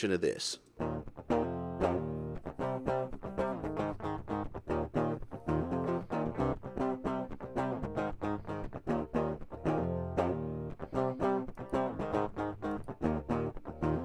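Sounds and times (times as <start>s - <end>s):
clean electric guitar riff: 0.8s - 14.0s.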